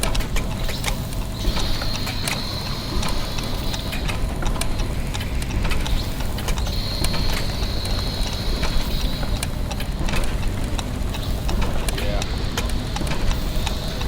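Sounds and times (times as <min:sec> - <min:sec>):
clockwork gears ticking and clicking: 0:00.0 - 0:14.0
low machinery hum: 0:00.0 - 0:14.0.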